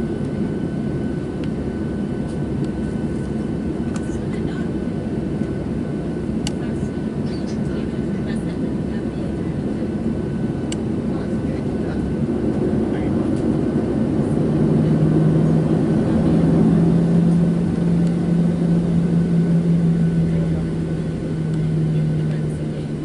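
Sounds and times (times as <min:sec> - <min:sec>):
jet engine cabin rumble: 0:00.0 - 0:23.0
low hum: 0:00.0 - 0:23.0.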